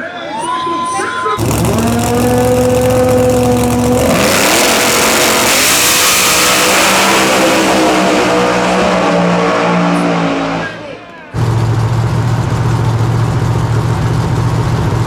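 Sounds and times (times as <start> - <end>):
drag car engine at high revs: 1.4 - 15.0.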